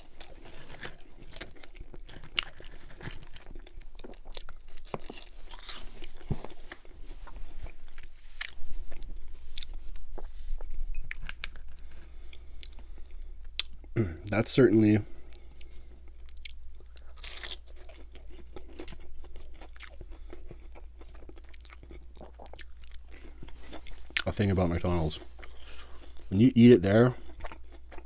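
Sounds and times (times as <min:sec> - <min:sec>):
chewing french fries: 0:00.0 - 0:14.0, 0:15.3 - 0:28.0.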